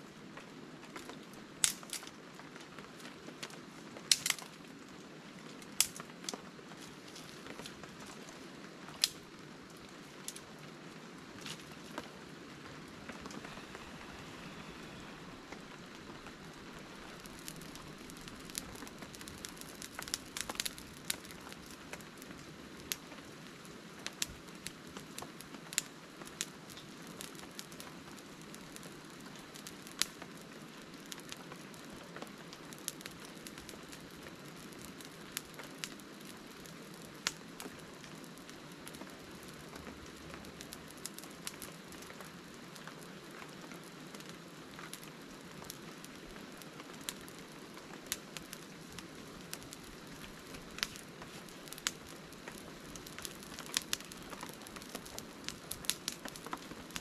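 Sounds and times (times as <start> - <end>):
rain on a tarp: 0.0 - 57.0
sharp rain ticks: 0.3 - 57.0.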